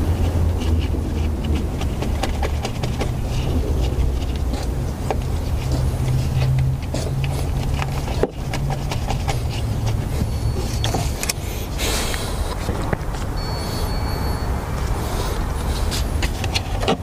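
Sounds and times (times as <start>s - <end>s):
hand tool clicks and scrapes: 0.2s - 13.3s, 14.8s - 17.0s.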